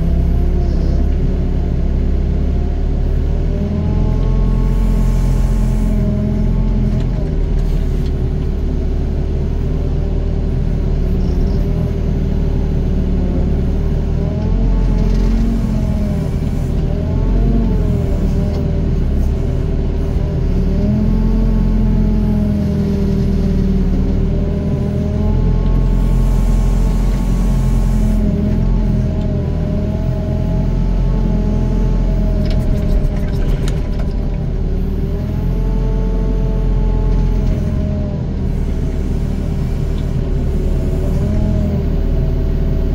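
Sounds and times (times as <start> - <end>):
excavator diesel engine under load: 0.0 - 42.9.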